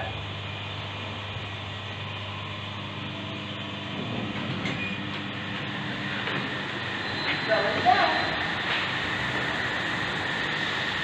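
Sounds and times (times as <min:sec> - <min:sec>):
lift car humming and rumbling: 0:00.0 - 0:11.0.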